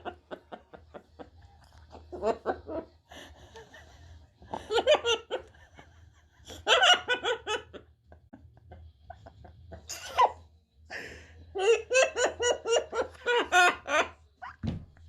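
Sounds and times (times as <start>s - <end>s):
laughter in rhythmic pulses: 0.0s - 14.6s.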